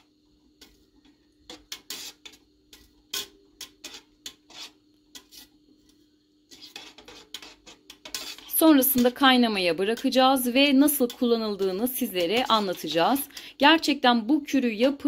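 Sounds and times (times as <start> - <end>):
utensil scraping and knocking pot: 0.0 - 13.6
faint steady hum: 0.0 - 15.0.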